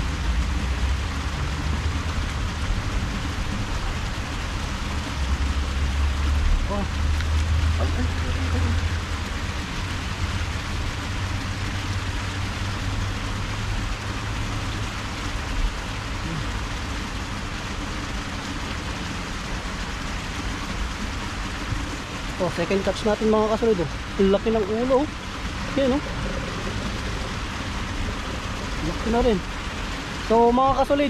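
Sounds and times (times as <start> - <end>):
low hum: 0.0 - 30.5
flowing water rushing: 0.0 - 31.0.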